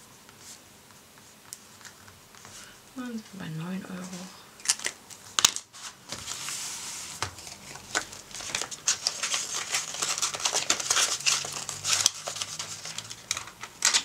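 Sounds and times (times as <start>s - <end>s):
plastic and paper pages rustling: 1.2s - 2.7s, 4.0s - 14.0s.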